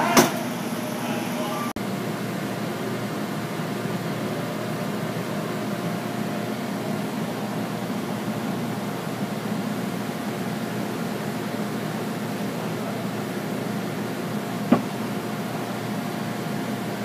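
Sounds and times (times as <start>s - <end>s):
mechanical hum and hiss: 0.0s - 17.0s.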